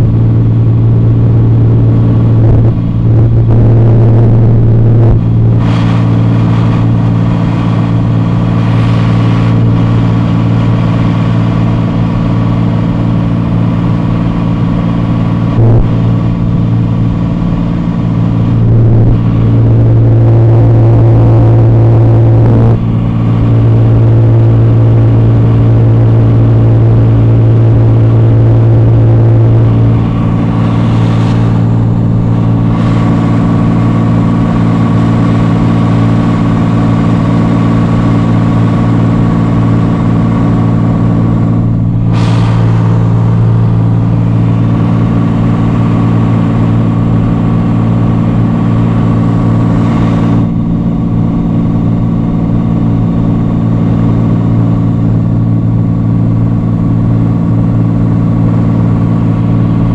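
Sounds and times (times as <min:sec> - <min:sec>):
plane engine and propeller droning: 0:00.0 - 0:59.9.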